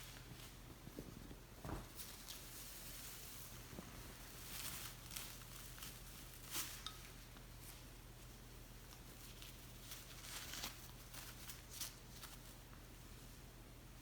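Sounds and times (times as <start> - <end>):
parrot preening rustles and clicks: 0.0 - 13.5.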